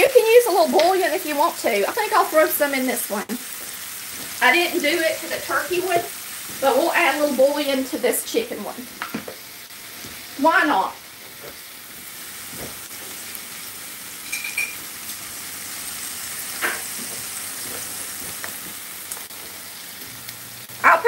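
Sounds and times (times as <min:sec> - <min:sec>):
onions sizzling in a skillet: 0:00.0 - 0:21.0.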